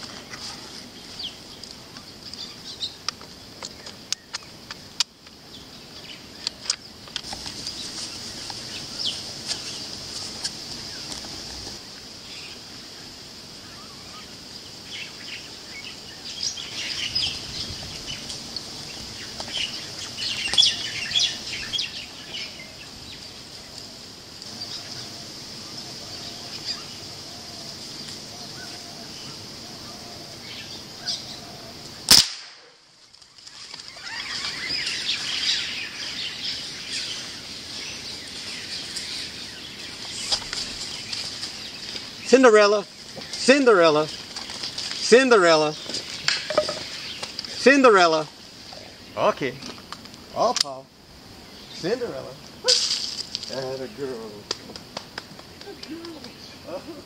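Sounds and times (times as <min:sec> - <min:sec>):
birds chirping: 0:00.0 - 0:57.0
high-pitched background hiss: 0:00.0 - 0:57.0.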